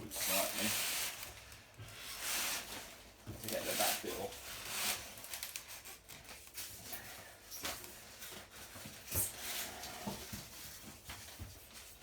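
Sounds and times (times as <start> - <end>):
polystyrene scraping and creaking: 0.1 - 10.8.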